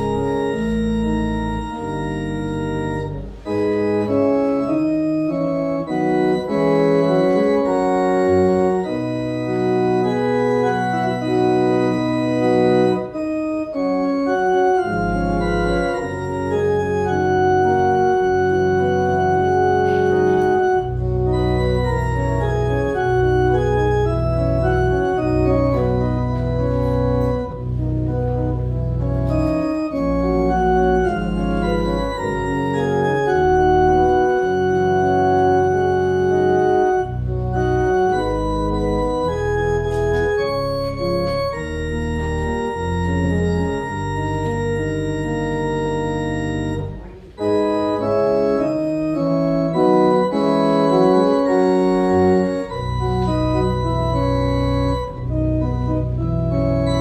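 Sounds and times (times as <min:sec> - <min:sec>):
church organ chords: 0:00.0 - 0:57.0
deep organ bass notes: 0:00.0 - 0:57.0.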